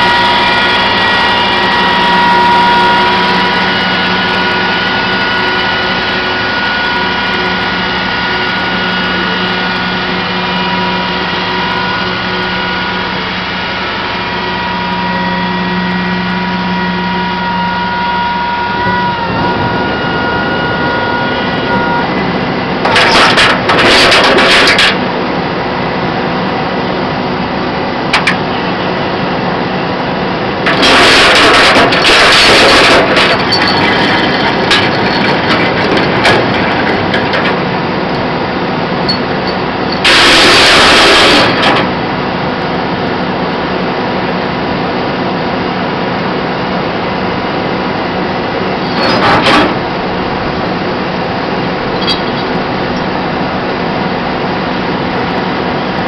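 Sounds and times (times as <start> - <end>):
diesel engine running: 0.0 - 56.0
engine whine: 0.0 - 56.0.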